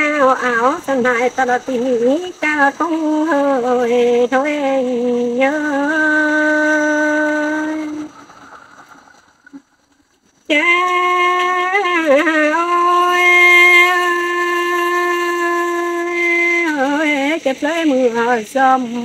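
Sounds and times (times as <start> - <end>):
woman singing long held notes: 0.0 - 8.2, 10.5 - 19.0.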